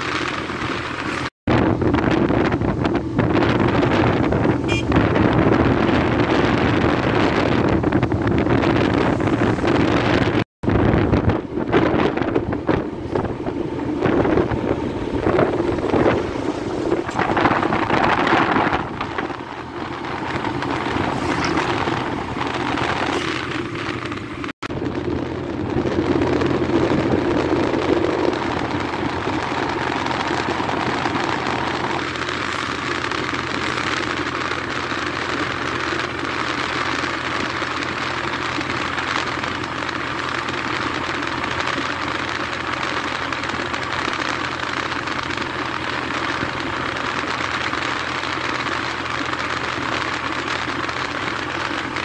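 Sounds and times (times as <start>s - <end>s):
tyre and wind rush: 0.0s - 52.0s
vehicle engine hum: 0.0s - 52.0s.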